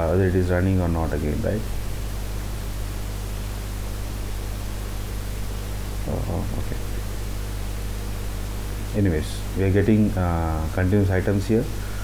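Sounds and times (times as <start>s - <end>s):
background hiss: 0.0s - 12.0s
low even hum: 0.0s - 12.0s.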